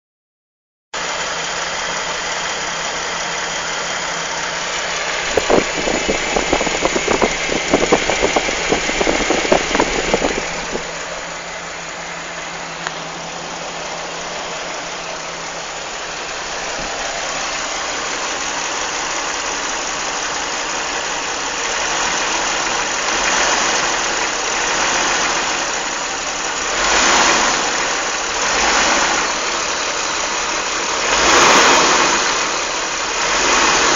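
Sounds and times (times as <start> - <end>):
car engine running: 1.0 - 33.9
engine knocks and rattles: 1.0 - 33.9.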